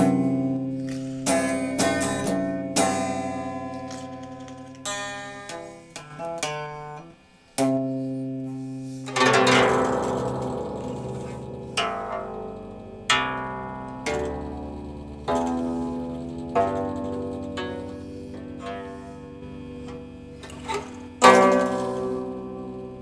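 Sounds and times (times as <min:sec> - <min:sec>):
plucked string instrument music: 0:00.0 - 0:23.0.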